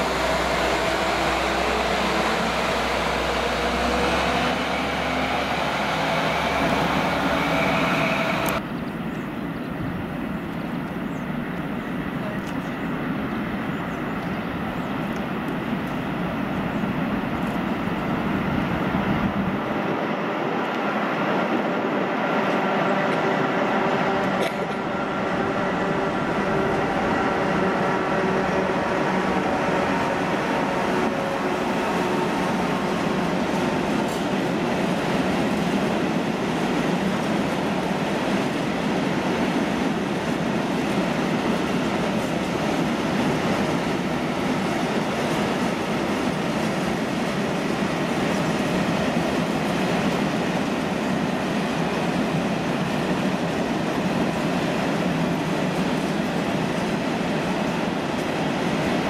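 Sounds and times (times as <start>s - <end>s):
locomotive steady tones: 0.0s - 59.0s.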